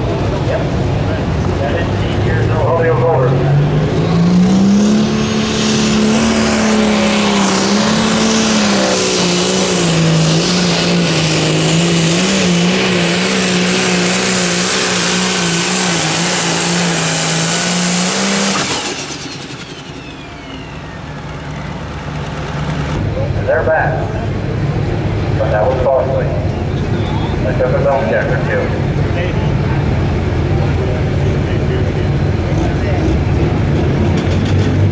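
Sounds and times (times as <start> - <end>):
tractor engine at full throttle: 0.0 - 34.9.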